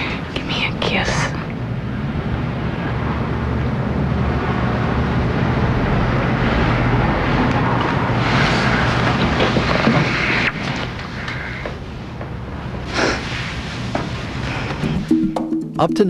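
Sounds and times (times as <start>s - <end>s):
steady rumbling noise: 0.0s - 15.2s.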